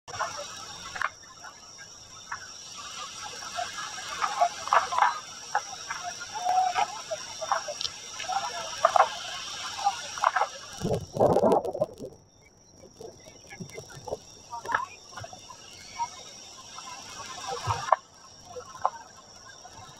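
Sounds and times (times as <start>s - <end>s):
high-pitched insect trill: 0.1s - 19.9s.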